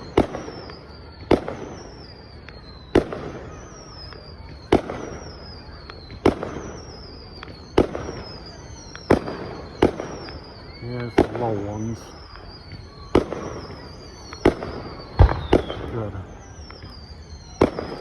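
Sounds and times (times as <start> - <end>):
firework shells bursting: 0.1 - 18.0.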